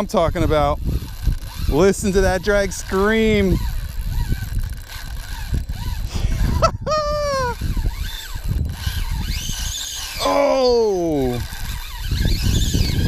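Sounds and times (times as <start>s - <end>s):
fishing reel drag whining: 0.0s - 13.0s
wind rumble on microphone: 0.0s - 13.0s.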